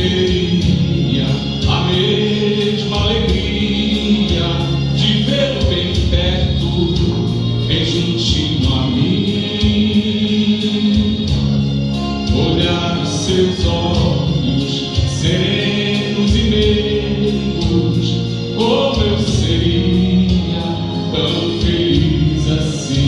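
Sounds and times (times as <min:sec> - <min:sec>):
instrumental accompaniment: 0:00.0 - 0:23.0
man singing a hymn: 0:00.0 - 0:23.0.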